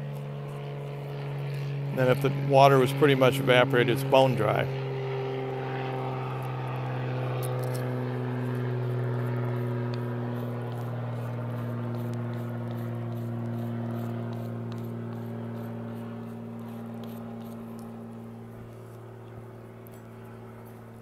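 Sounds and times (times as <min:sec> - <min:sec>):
propeller airplane droning overhead: 0:00.0 - 0:21.0.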